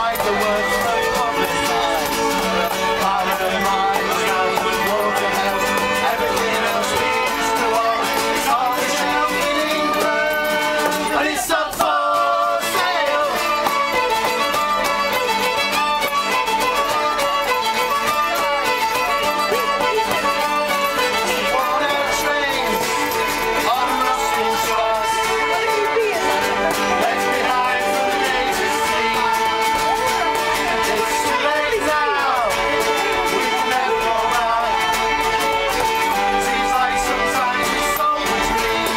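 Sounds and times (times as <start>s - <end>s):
live acoustic folk music: 0.0s - 38.9s.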